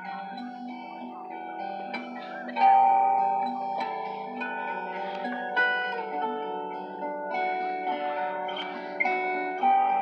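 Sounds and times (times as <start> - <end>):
plucked string melody: 0.0 - 10.0.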